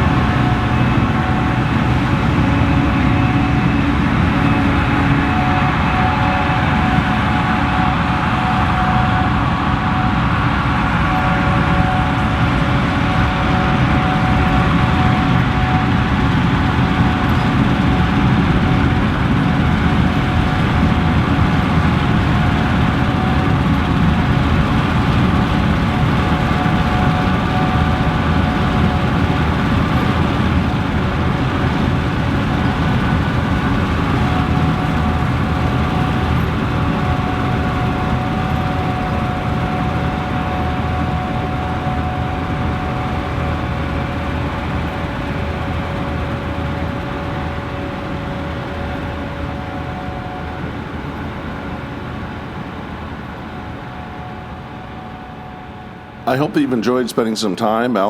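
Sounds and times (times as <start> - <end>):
combine harvester rumble: 0.0 - 58.0
steady whining tones: 0.0 - 58.0.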